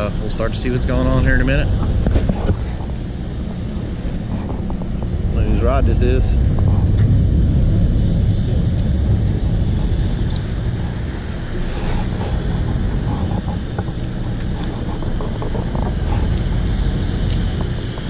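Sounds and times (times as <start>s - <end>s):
boat engines rumbling: 0.0s - 18.0s.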